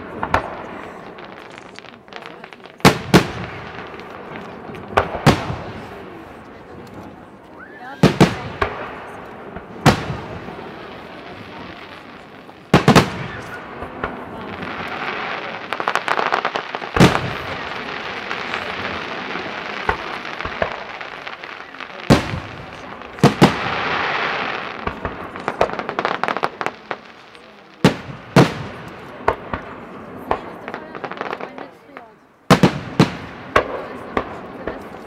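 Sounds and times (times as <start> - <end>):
fireworks crackling and hissing: 0.0 - 35.0.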